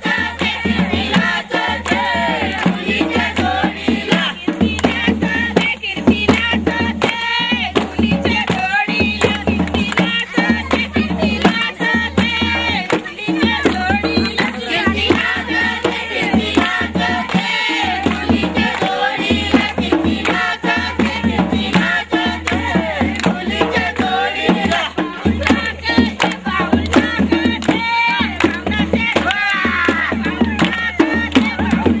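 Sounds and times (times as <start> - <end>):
percussion beat: 0.0 - 32.0
voices singing: 0.0 - 32.0.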